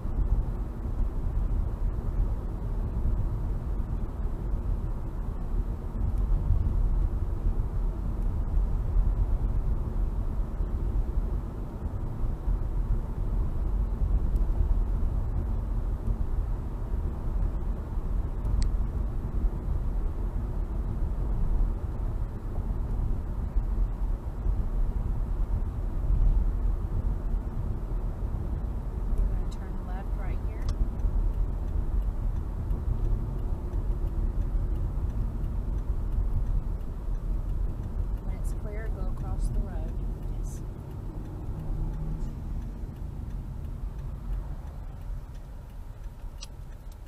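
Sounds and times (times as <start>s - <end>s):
car tyre and engine rumble: 0.0s - 47.0s.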